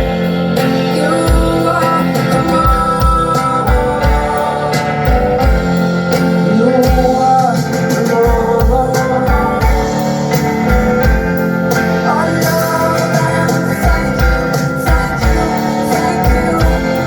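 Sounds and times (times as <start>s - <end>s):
bass: 0.0s - 17.0s
guitar: 0.0s - 17.0s
woman singing: 0.6s - 10.2s, 12.0s - 17.0s.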